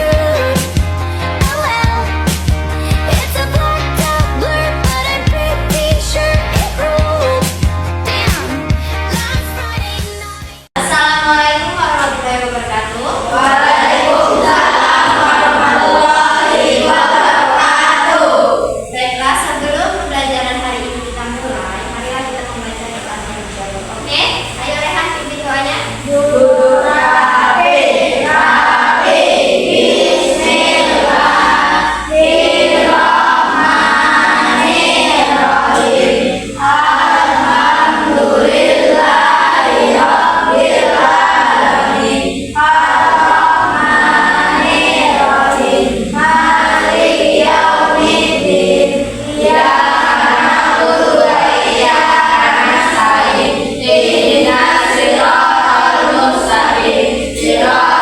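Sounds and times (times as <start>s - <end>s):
group of voices singing: 0.0s - 19.8s, 25.7s - 58.0s.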